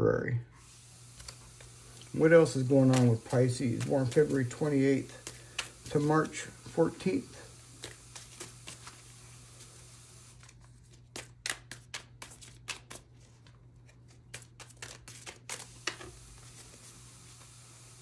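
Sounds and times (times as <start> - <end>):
cards being shuffled: 1.1 - 17.6.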